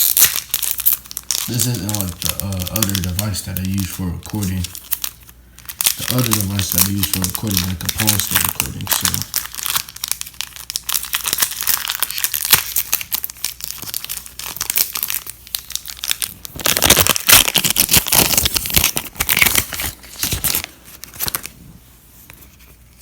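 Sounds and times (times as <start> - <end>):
foil wrapper crinkling and tearing: 0.0 - 21.6.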